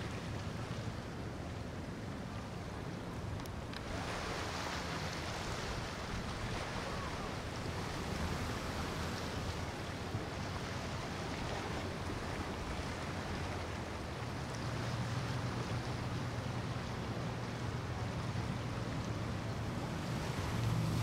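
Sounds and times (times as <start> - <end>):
boat engine hum: 0.0 - 21.0
water rushing and splashing: 0.0 - 21.0.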